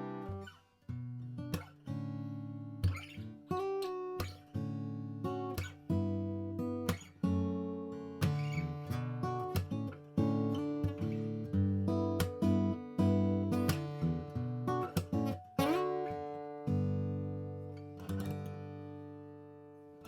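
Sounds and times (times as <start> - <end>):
acoustic guitar strumming chords: 0.0 - 1.2, 4.2 - 19.5.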